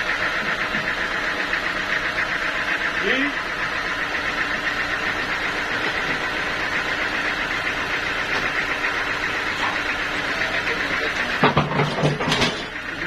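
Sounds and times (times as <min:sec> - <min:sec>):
sawmill machinery drone: 0:00.0 - 0:13.0.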